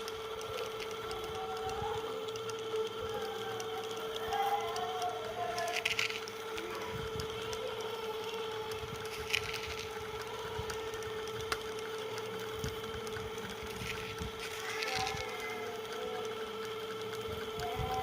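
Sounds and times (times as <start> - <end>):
concrete mixer motor hum: 0.0 - 18.0
sharp clicks: 0.0 - 18.0.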